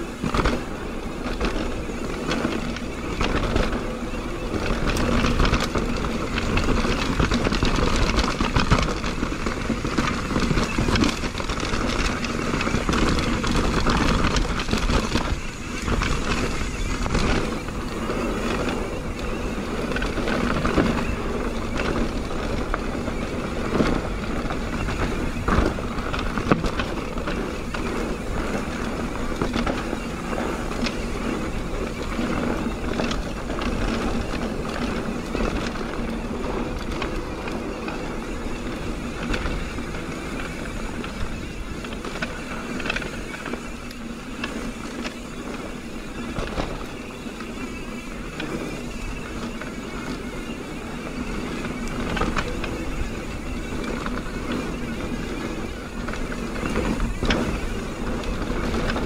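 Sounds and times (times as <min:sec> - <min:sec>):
bike rattling over bumps: 0:00.0 - 0:59.0
bike tyres rolling over dirt: 0:00.0 - 0:59.0.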